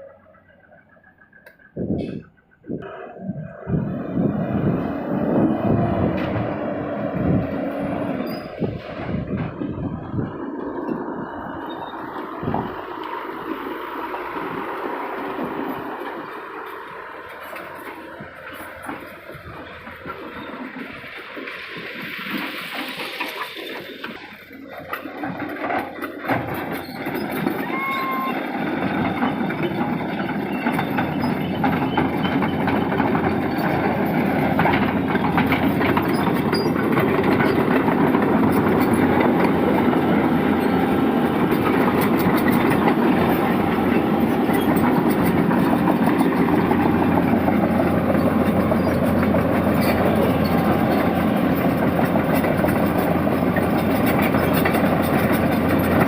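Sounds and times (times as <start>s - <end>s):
heavy diesel machinery rumbling: 0.0s - 56.0s.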